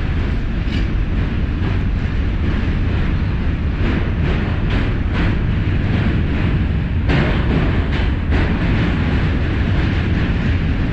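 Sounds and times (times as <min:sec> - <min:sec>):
subway train rumbling on rails: 0:00.0 - 0:10.9
train rattles: 0:00.0 - 0:10.9.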